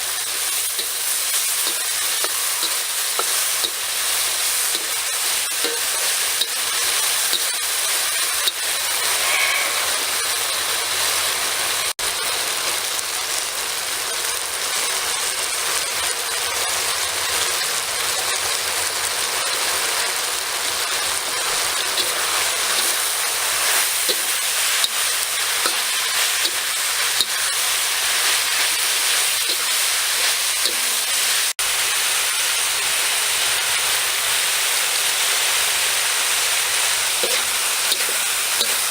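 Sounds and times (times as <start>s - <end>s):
meat and vegetables sizzling in pan: 0.0s - 38.9s.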